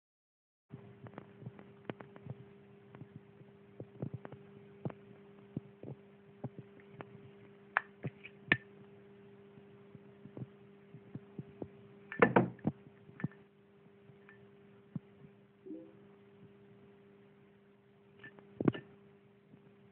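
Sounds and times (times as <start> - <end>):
low steady hum: 0.7 - 19.9.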